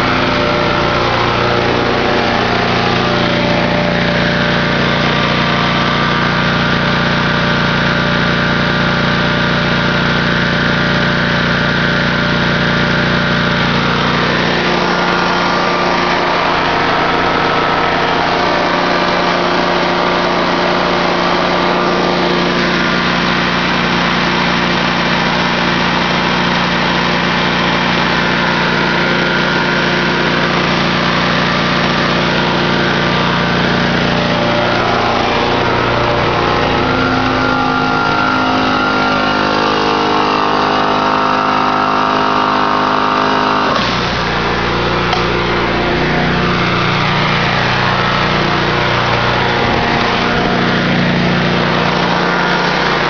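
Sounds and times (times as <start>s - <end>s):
generator engine running: 0.0s - 53.0s
machine hum shifting in pitch: 0.0s - 53.0s.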